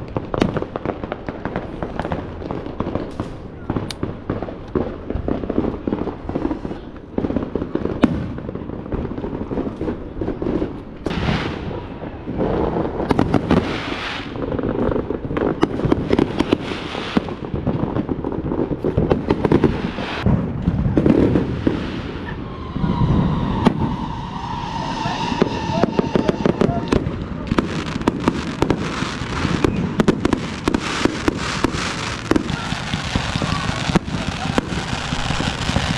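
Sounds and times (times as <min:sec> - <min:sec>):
fireworks booming and crackling: 0:00.0 - 0:35.9.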